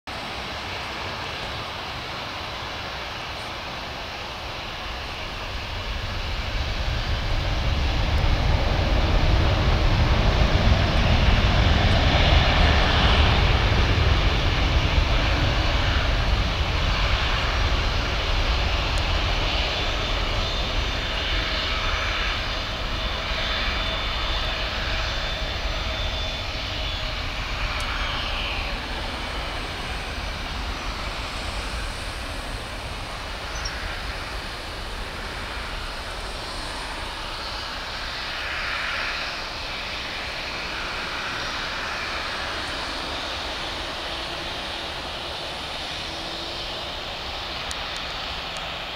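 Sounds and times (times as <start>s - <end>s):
jet engines rumbling: 0.1s - 48.9s.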